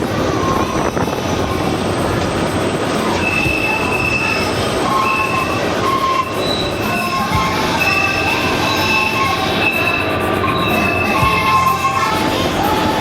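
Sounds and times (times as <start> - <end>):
high wheel squeals: 0.0 - 13.0
train wheels rumbling on rails: 0.0 - 13.0.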